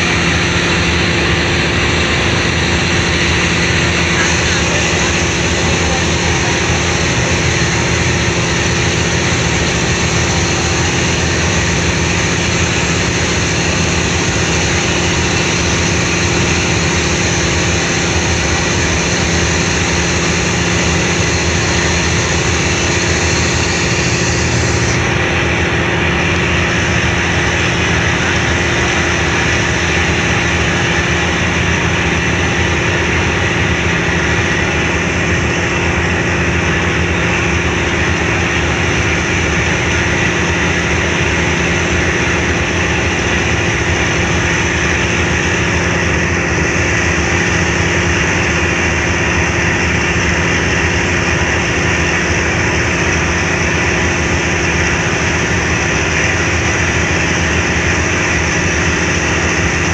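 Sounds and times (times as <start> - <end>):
ferry diesel engines droning: 0.0 - 59.9.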